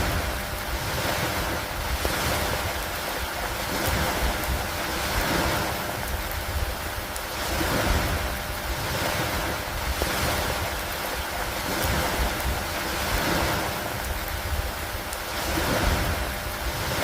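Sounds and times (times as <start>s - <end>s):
rain on wooden dock: 0.0s - 17.0s.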